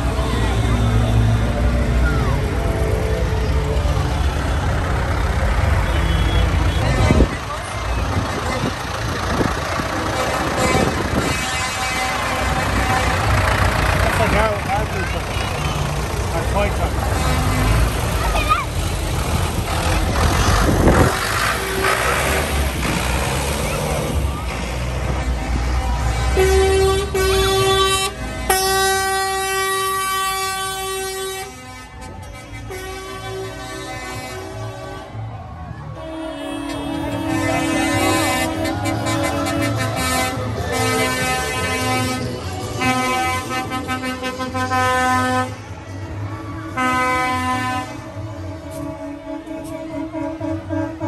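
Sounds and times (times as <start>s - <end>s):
crowd talking: 0.0s - 51.0s
tractor engines running: 0.0s - 51.0s
truck horn blasts: 4.4s - 7.4s, 9.3s - 18.2s, 19.6s - 35.2s, 35.9s - 45.8s, 46.7s - 51.0s.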